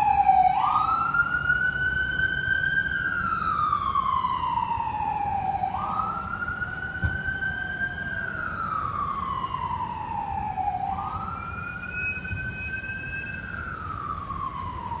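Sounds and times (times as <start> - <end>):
ambulance siren wailing: 0.0 - 15.0
street traffic rumble: 0.0 - 15.0.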